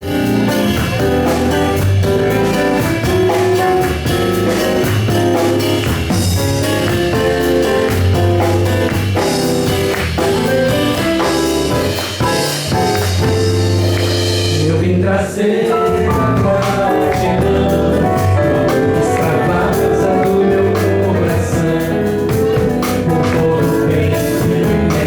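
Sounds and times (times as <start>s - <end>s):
drum kit: 0.0s - 25.0s
electric bass: 0.0s - 25.0s
keyboard: 0.0s - 25.0s.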